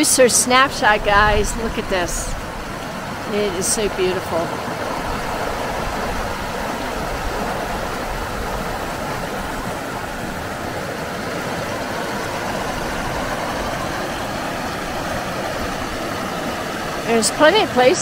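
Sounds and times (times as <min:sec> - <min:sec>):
river rushing over boulders: 0:00.0 - 0:18.0.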